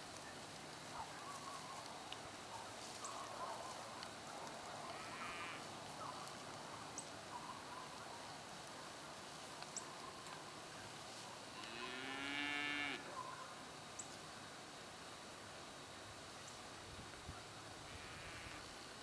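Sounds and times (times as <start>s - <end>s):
steady light hiss: 0.0s - 19.0s.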